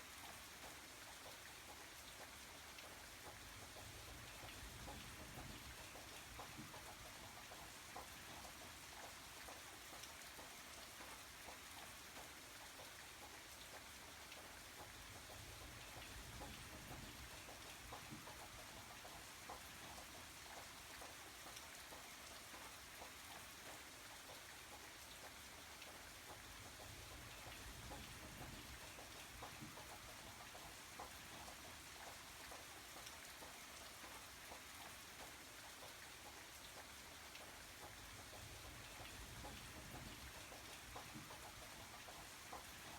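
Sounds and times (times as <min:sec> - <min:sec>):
faint steady rain: 0:00.0 - 0:42.9.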